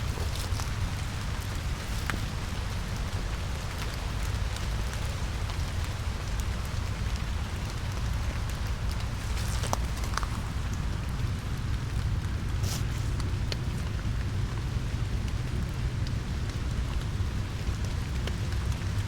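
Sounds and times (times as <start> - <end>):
constant low rumble: 0.0 - 19.0
rain pattering on leaves: 0.0 - 19.0
water drips ticking: 0.0 - 19.0.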